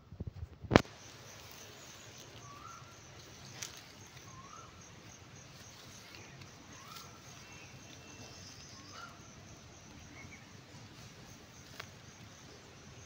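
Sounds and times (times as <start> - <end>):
steady outdoor hiss: 0.0 - 13.0
bird calling: 1.0 - 12.7.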